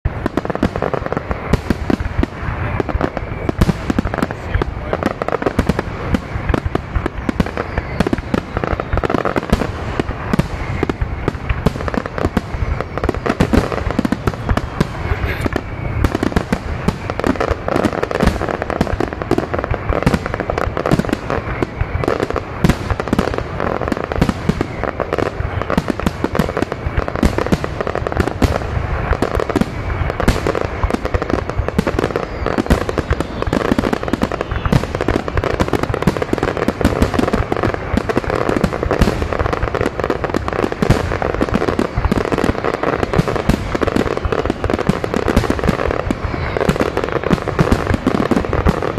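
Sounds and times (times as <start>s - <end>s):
firework crackling: 0.0s - 48.9s
fireworks bursting: 0.0s - 48.9s.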